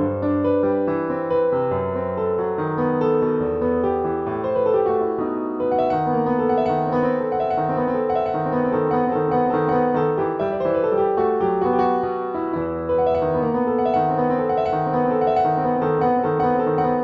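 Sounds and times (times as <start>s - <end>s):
solo classical piano: 0.0s - 17.0s.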